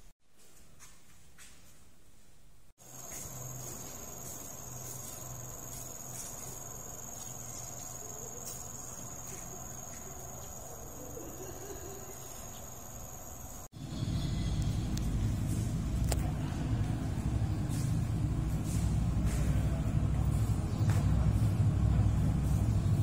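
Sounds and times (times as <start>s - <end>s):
insects chirring: 2.8s - 23.0s
faint low hum: 2.9s - 23.0s.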